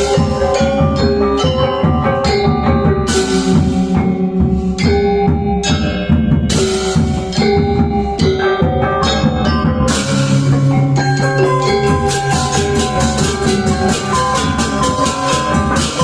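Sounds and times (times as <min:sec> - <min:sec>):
dense drumming: 0:00.0 - 0:16.0
gamelan metallophones ringing: 0:00.0 - 0:16.0.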